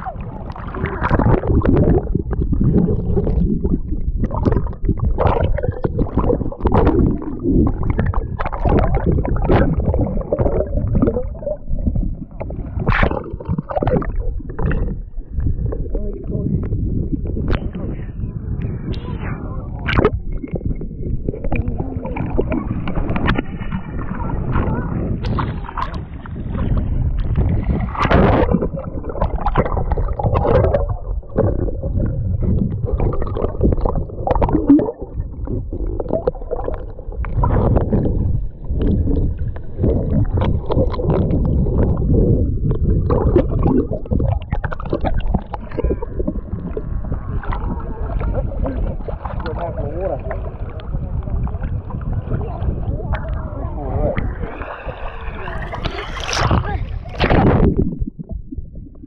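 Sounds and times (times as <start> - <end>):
water sloshing and splashing: 0.0 - 18.1, 18.9 - 59.0.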